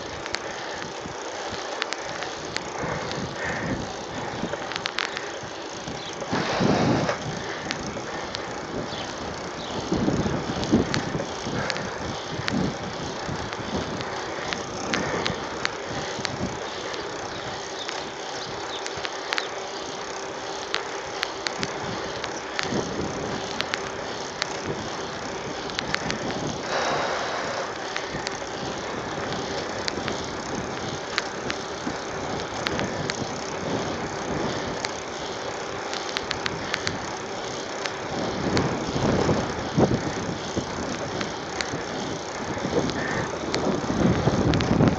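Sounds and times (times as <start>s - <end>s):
bike clicks and rattles: 0.0s - 44.9s
tyre and wind noise: 0.0s - 44.9s.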